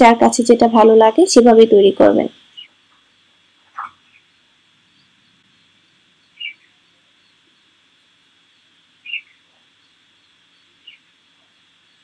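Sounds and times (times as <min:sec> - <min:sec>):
faint high-pitched whine: 0:00.0 - 0:12.0
small bird chirping: 0:02.4 - 0:12.0.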